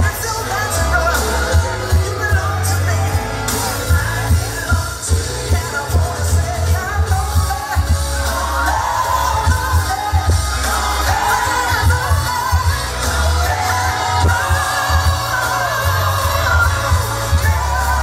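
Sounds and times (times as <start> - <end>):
dance-pop music with singing: 0.0 - 18.0.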